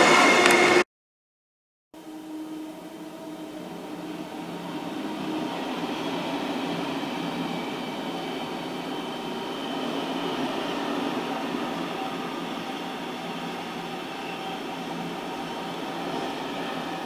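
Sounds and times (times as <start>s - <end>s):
freight locomotive passing: 0.0s - 0.8s, 2.0s - 17.0s
train wheels on rails: 2.8s - 17.0s.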